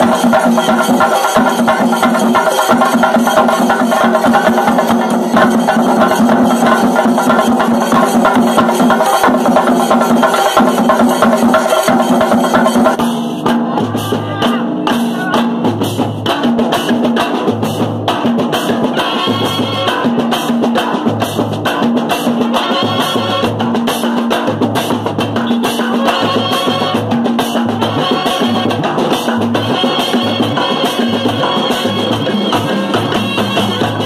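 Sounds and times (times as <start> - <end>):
deep drum beat: 0.0 - 34.0
drums beaten with sticks: 0.0 - 34.0.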